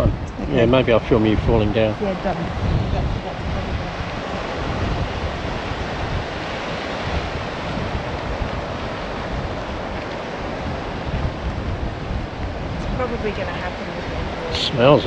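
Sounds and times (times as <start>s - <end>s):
waves washing onto rocky beach: 0.0s - 15.0s
wind buffeting microphone: 0.0s - 15.0s.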